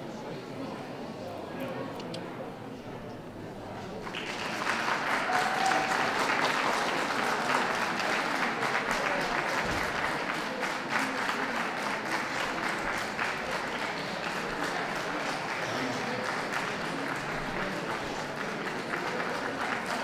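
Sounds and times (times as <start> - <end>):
audience applauding: 3.9 - 20.0.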